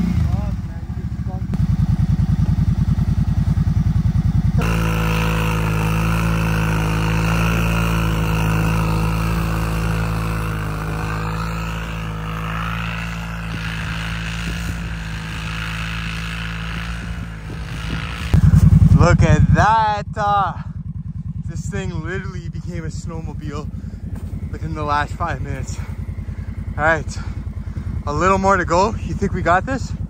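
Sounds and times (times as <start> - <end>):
quad bike engine: 0.0 - 30.0.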